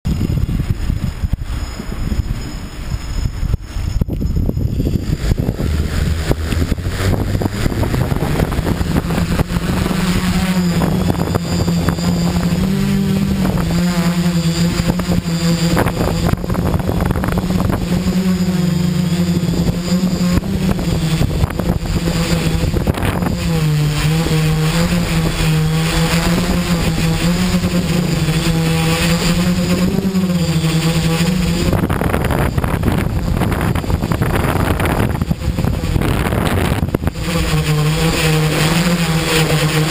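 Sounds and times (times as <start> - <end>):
rushing wind noise: 0.0 - 39.9
drone propellers humming: 0.1 - 39.9.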